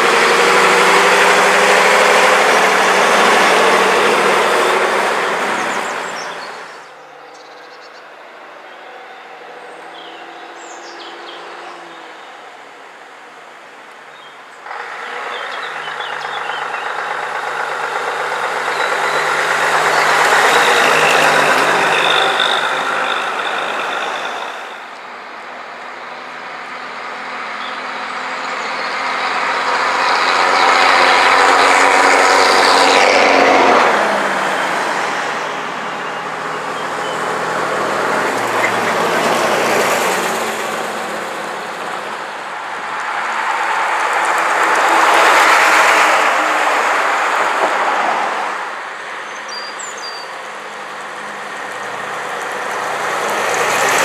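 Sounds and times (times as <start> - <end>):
bus engines driving past: 0.0 - 54.0.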